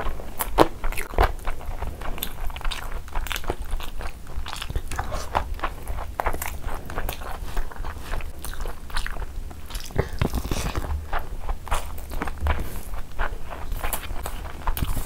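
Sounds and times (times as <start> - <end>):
close wet chewing: 0.0 - 15.0.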